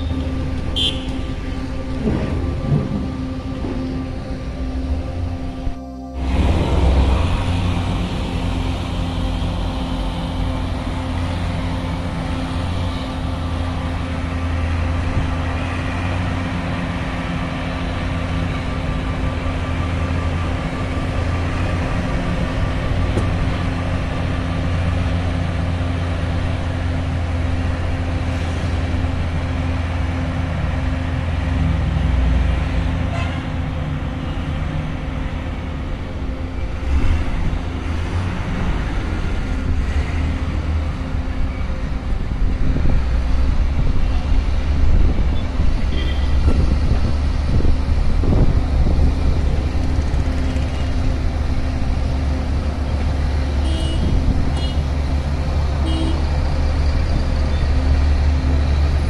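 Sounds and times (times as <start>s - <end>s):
engine running steadily: 0.0s - 59.0s
road traffic noise: 0.0s - 59.0s.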